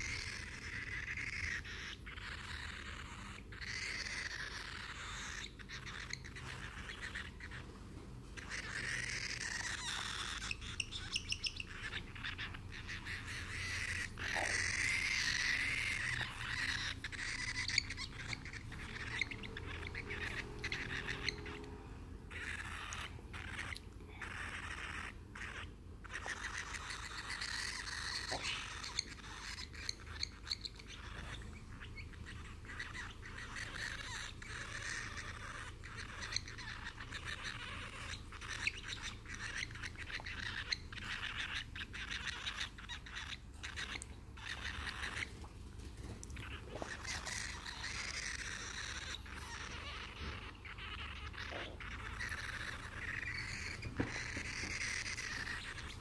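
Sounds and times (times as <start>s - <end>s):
birds chirping and chattering: 0.0s - 56.0s
steady low hum: 0.0s - 56.0s.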